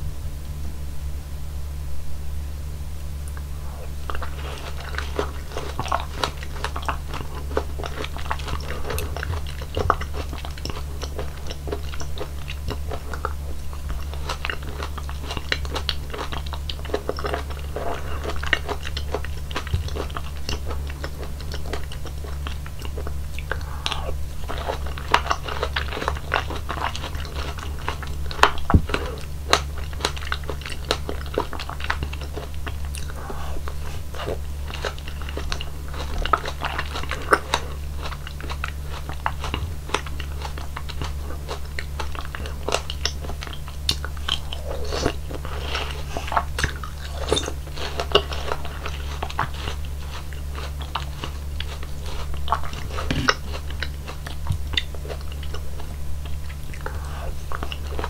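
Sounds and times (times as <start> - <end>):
steady low hum: 0.0 - 58.0
wet crunchy chewing: 3.3 - 58.0.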